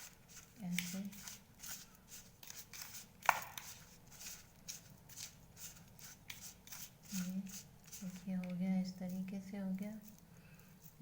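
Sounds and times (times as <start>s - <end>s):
hands rubbing crumbly filling: 0.0s - 11.0s.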